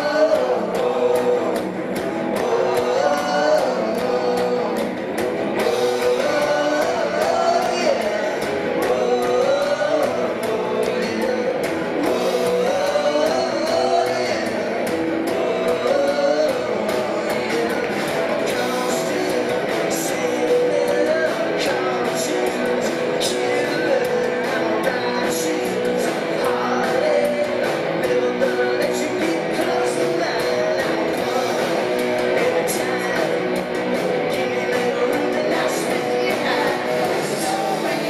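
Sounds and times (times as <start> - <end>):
live rock band: 0.0 - 38.0.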